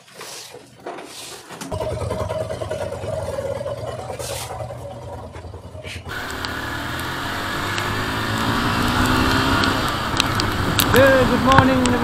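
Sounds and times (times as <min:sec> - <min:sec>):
motorcycle engine: 0:01.6 - 0:12.0.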